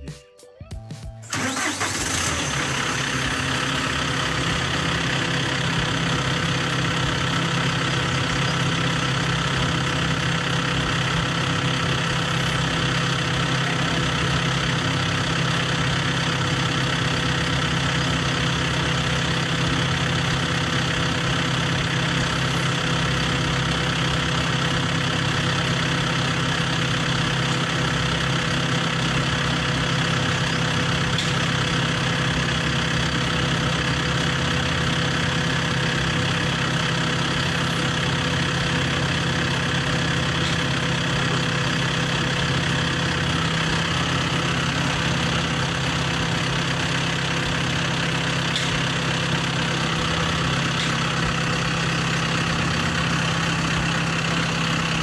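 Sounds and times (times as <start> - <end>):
tractor engine idling: 1.2 - 55.0.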